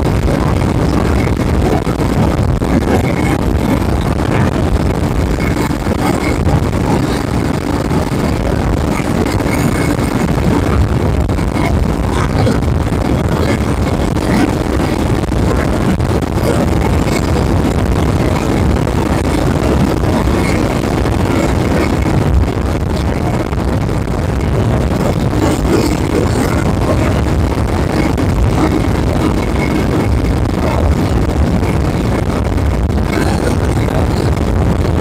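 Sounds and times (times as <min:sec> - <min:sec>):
wind noise on microphone: 0:00.0 - 0:35.0.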